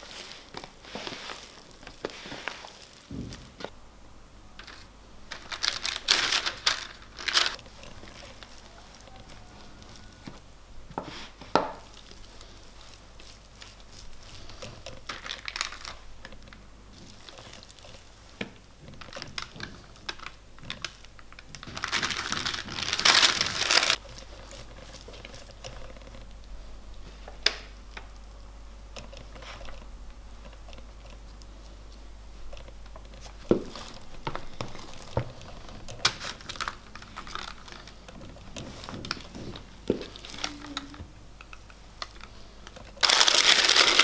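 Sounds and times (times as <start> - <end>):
crinkling handling noise: 0.0 - 3.8, 4.5 - 44.0
hands kneading dough: 0.0 - 3.8, 4.5 - 44.0.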